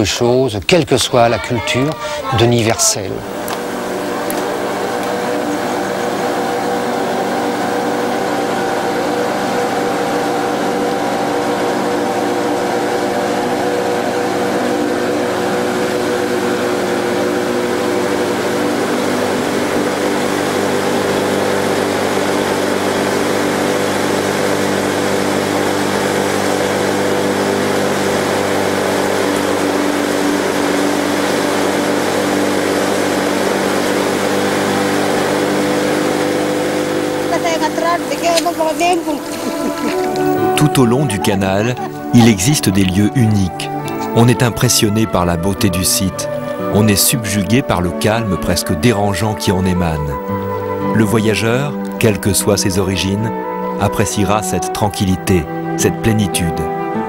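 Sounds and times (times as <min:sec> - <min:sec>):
water noise: 0:00.0 - 0:55.8
boat engine running: 0:00.0 - 0:57.0.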